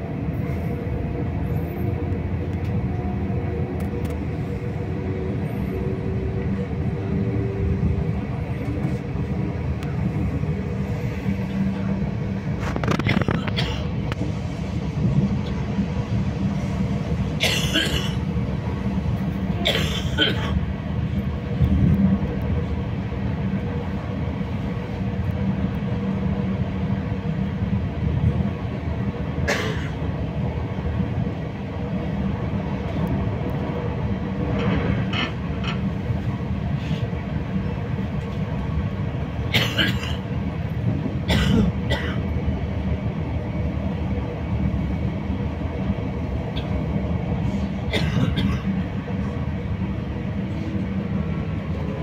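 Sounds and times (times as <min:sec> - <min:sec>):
train running rumble: 0:00.0 - 0:52.0.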